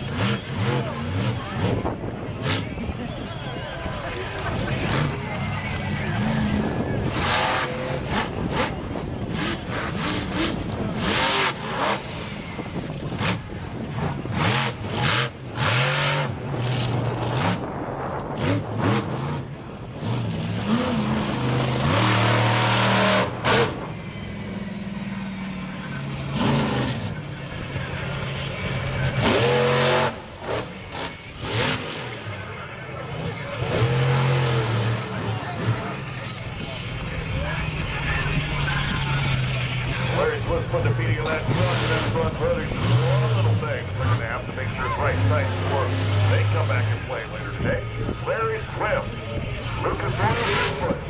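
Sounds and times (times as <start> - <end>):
monster truck engine revving: 0.0 - 51.0.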